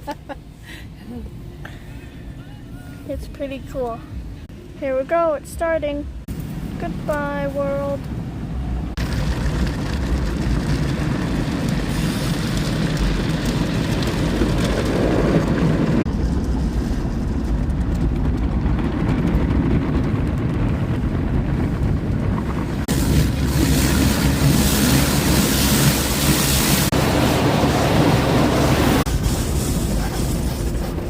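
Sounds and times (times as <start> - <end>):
car wash machinery rumble: 0.0 - 31.0.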